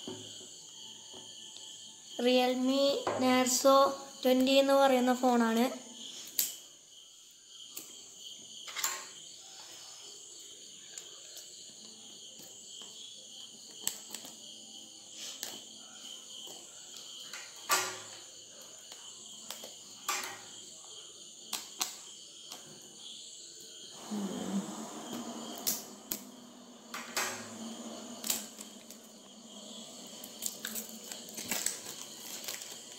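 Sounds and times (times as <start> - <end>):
insects chirring: 0.0 - 32.9.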